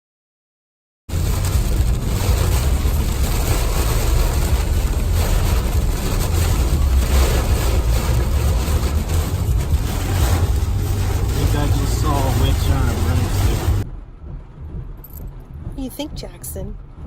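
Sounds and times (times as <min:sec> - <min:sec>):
truck rumble inside cab: 0:01.1 - 0:17.0.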